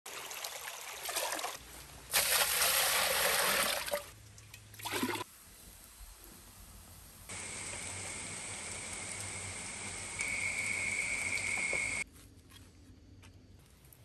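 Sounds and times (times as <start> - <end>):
water trickling and splashing pour: 0.1 - 6.0, 6.6 - 12.0.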